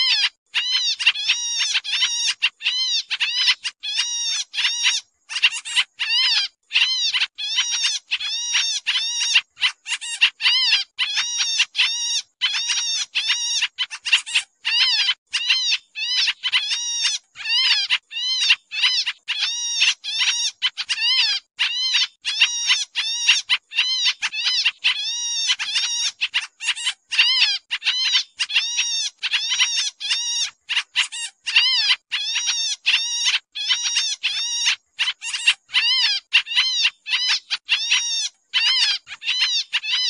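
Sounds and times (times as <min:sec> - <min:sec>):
birds calling: 0:00.0 - 0:40.0.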